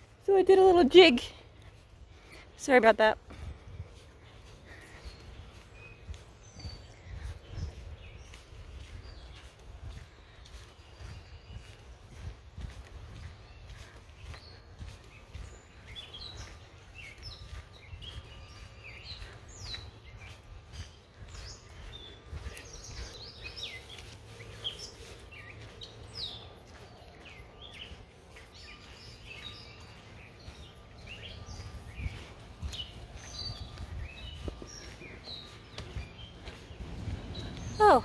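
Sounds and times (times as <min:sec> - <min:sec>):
songbirds chirping and singing: 0:00.0 - 0:38.0.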